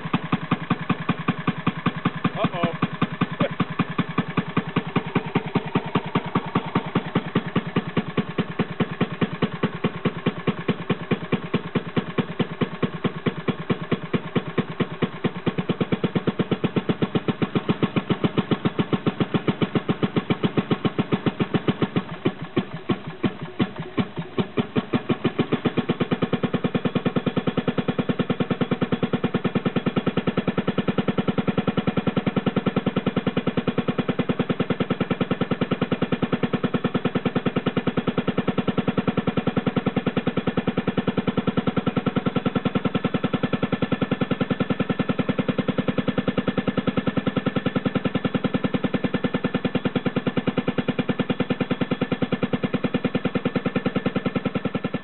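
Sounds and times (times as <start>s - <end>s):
engine running with even beat: 0.0s - 55.0s.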